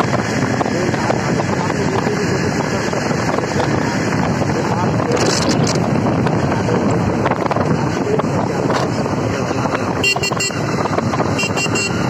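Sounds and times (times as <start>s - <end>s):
motorcycle engine: 0.0s - 12.0s
wind on microphone: 0.0s - 12.0s.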